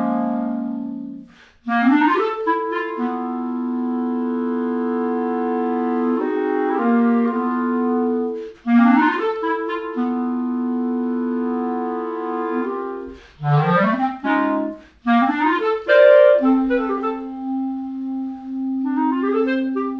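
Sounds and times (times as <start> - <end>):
clarinet music: 0.0 - 19.9.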